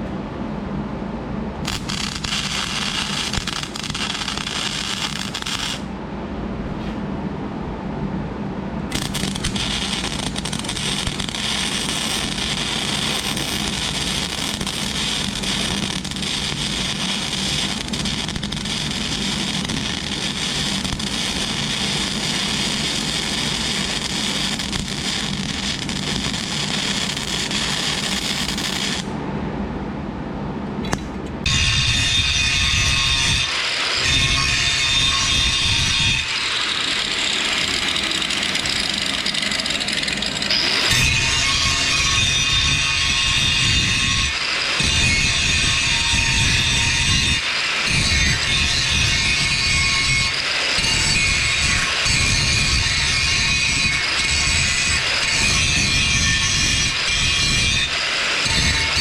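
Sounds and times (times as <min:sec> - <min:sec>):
welder arc crackling: 0:01.6 - 0:05.9, 0:08.9 - 0:29.1, 0:31.4 - 0:59.0.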